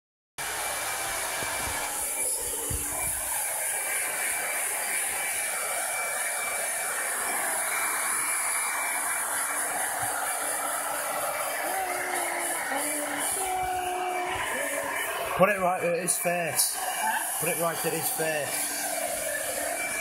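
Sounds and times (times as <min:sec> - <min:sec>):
hair dryer running: 0:00.4 - 0:20.0.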